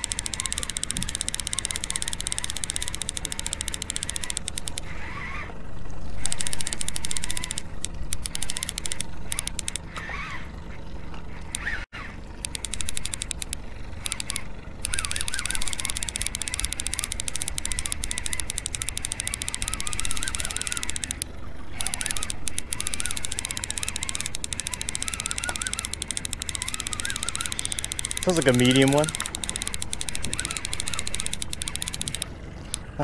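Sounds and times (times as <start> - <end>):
fishing reel clicking: 0.0 - 5.5, 6.1 - 10.2, 11.3 - 33.0.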